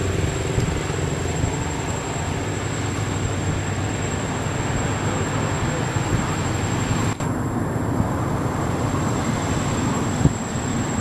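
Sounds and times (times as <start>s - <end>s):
faint high whine: 0.0s - 11.0s
outdoor rumbling noise: 0.0s - 11.0s.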